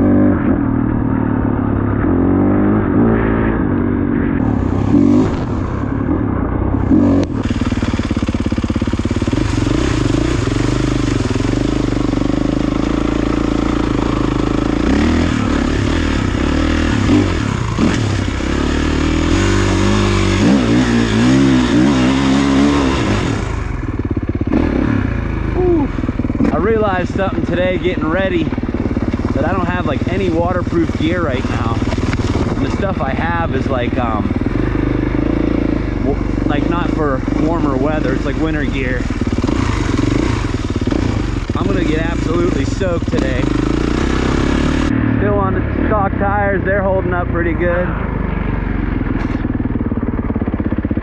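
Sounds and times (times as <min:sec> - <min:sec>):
motocross bike engine: 0:00.0 - 0:51.0.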